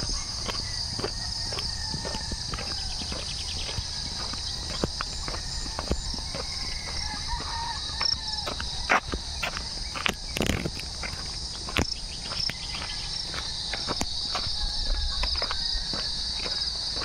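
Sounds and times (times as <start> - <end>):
faint rooster crowing: 0.0 - 10.4, 12.5 - 17.0
footsteps: 0.0 - 17.0
insect chorus: 0.0 - 17.0.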